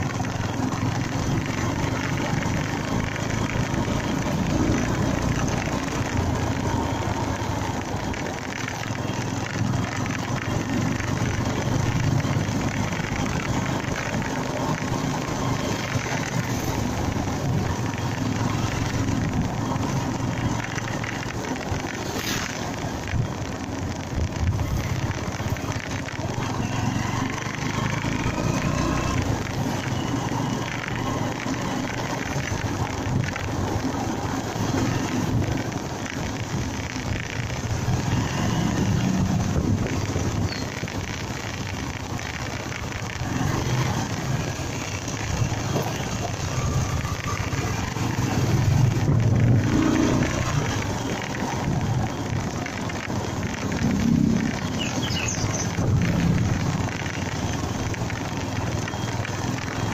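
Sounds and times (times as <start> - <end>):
motorcycle engine and road noise: 0.0 - 59.9.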